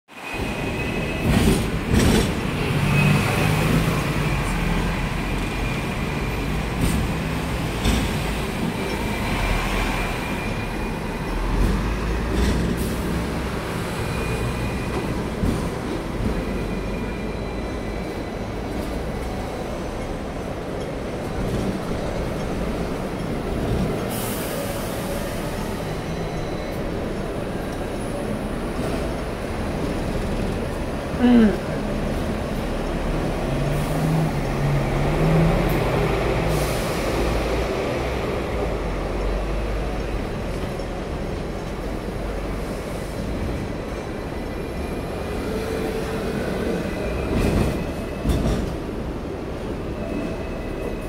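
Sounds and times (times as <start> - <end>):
tram rumbling: 0.1 - 51.0.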